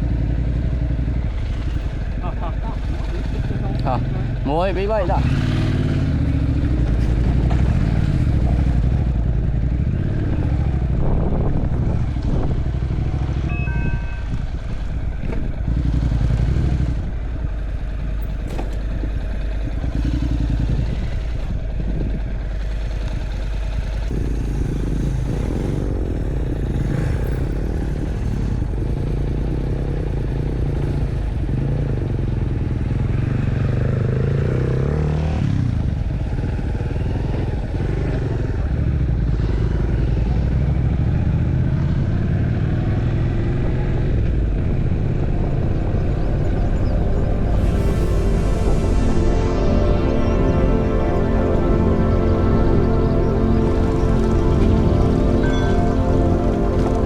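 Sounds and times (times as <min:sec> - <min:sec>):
motorbike engine running: 0:00.0 - 0:57.0.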